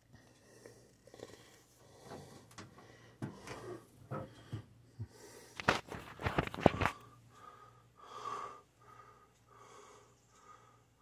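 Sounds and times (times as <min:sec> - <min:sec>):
person breathing heavily and wheezily: 0:00.0 - 0:11.0.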